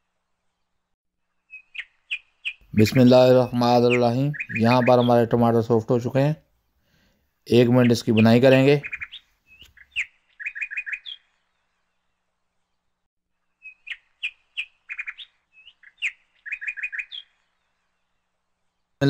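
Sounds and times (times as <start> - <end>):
small bird chirping: 0.5 - 5.5, 7.5 - 19.0.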